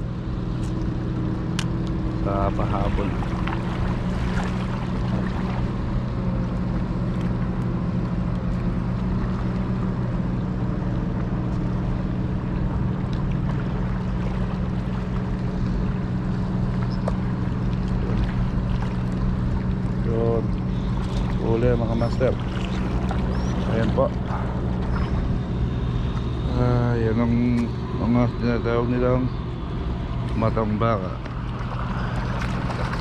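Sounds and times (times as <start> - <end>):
boat motor humming: 0.0 - 33.0.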